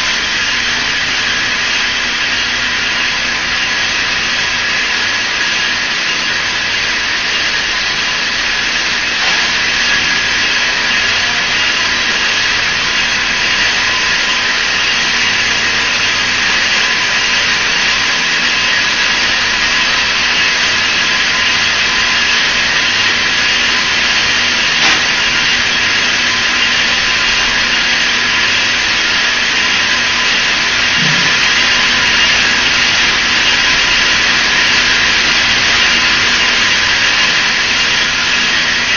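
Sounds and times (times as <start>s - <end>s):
wire netting machine whirring: 0.0s - 38.9s.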